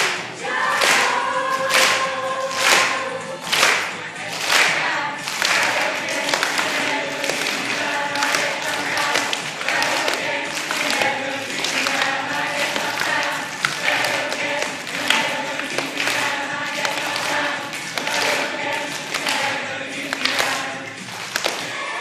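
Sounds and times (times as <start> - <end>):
claps and taps: 0.0 - 21.7
group of voices singing: 0.0 - 22.0.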